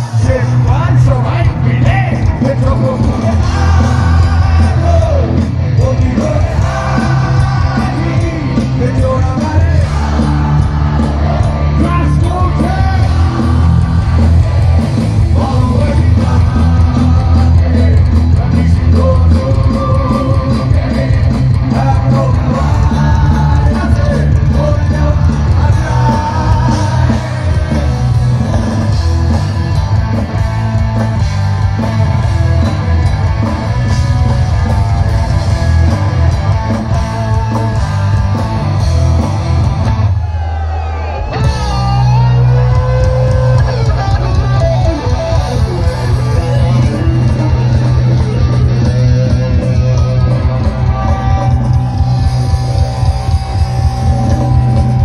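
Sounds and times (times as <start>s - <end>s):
rock music with singing: 0.0s - 55.0s.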